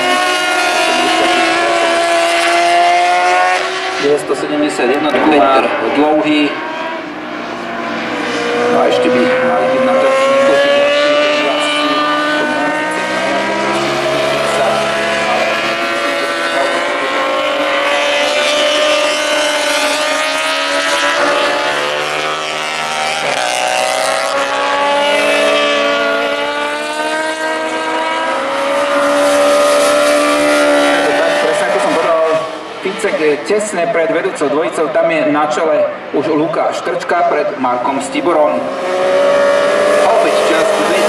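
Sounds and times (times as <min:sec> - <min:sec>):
racing motorcycle engines: 0:00.0 - 0:41.0.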